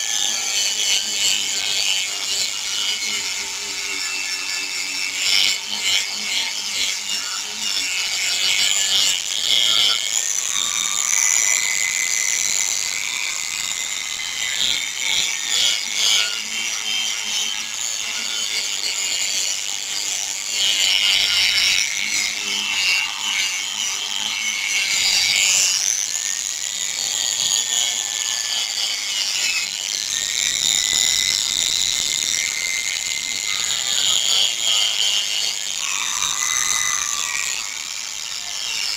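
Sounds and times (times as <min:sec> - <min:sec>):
power sander on plastic: 0:00.0 - 0:38.9.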